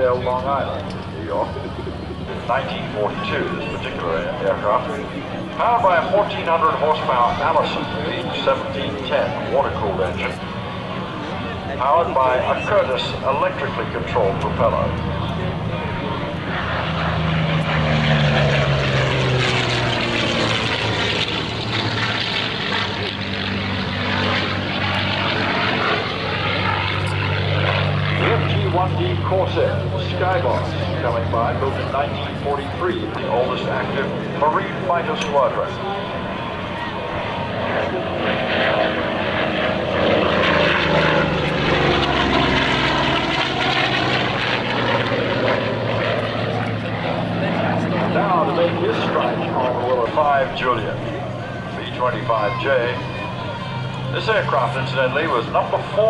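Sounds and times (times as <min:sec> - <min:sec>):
propeller plane passing overhead: 0:00.0 - 0:56.0.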